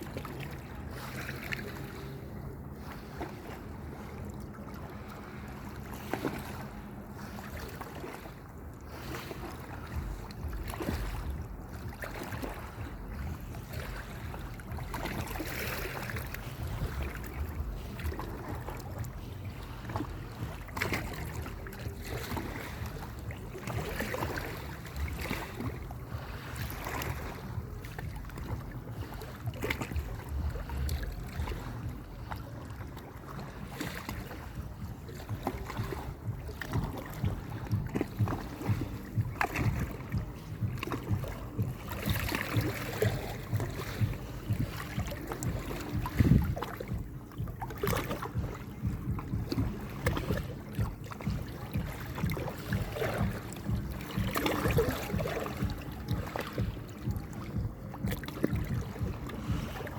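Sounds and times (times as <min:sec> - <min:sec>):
small splashes: 0:00.0 - 0:59.9
water: 0:00.0 - 0:59.9
wind buffeting microphone: 0:00.0 - 0:59.9.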